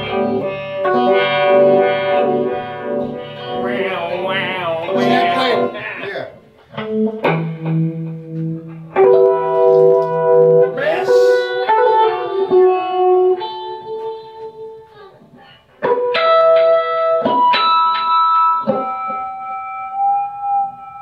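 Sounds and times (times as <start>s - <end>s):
guitar chords ringing: 0.0s - 15.2s, 15.8s - 21.0s.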